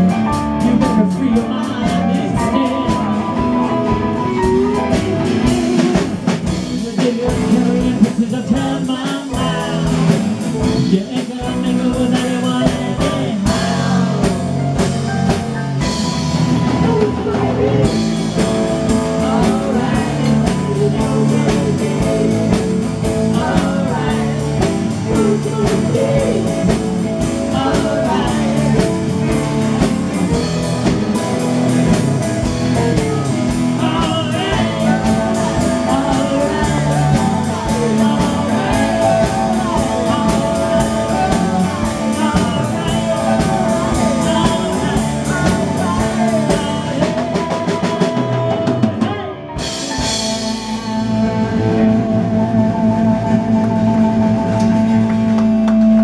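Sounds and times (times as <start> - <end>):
man singing: 0.0 - 56.0
rock band playing: 0.0 - 56.0.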